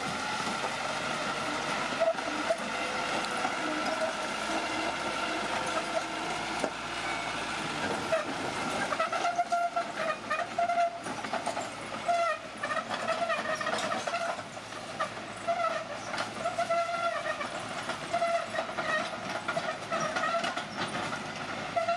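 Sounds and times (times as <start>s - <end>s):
bulldozer tracks squealing: 0.0s - 21.9s
tracks clanking and rattling: 1.9s - 21.9s.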